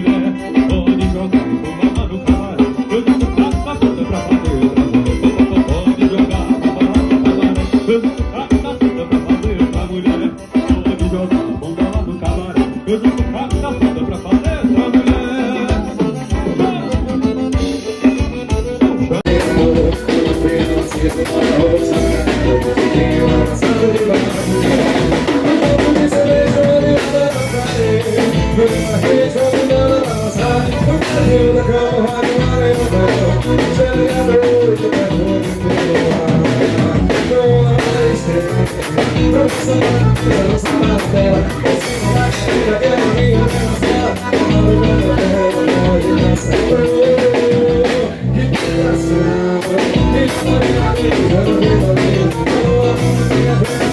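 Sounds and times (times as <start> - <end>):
upbeat song with drums and guitar: 0.0 - 53.9.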